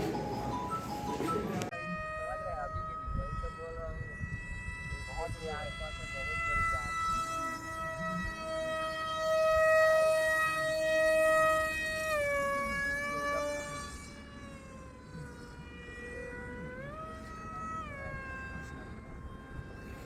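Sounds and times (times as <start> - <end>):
electric motor and propeller whine: 0.0 - 20.0.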